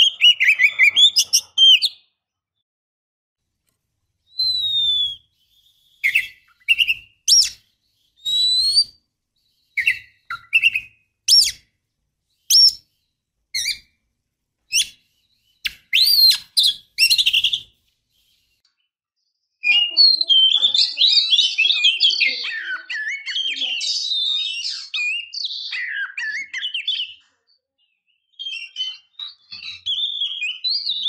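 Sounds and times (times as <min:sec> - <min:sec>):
bird whistles and chirps: 0:00.0 - 0:02.1, 0:04.2 - 0:11.7, 0:12.3 - 0:14.0, 0:14.7 - 0:18.6, 0:19.6 - 0:27.2, 0:27.8 - 0:31.0.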